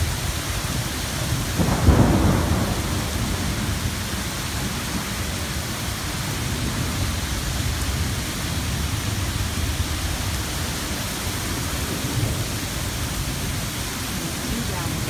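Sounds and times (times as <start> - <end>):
heavy rushing rain: 0.0 - 15.0.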